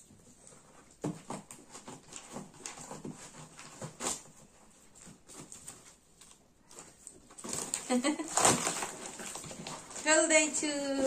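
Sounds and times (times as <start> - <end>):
paper packing rustling and crinkling: 0.0 - 11.0.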